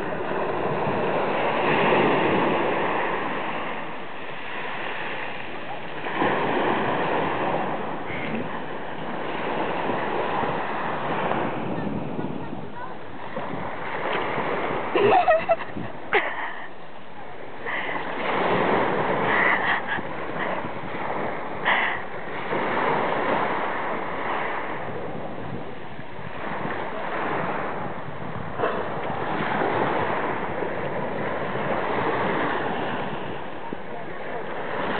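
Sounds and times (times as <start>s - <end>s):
surf on pebble shore: 0.0s - 34.9s.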